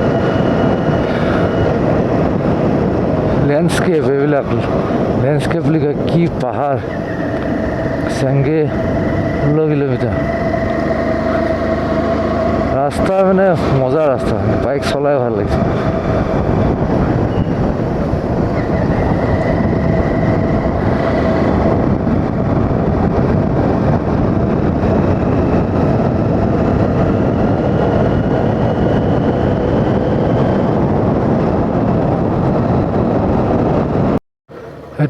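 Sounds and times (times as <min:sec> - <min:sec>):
faint engine whine: 0:00.0 - 0:35.0
motorcycle engine and wind rush: 0:00.0 - 0:35.0.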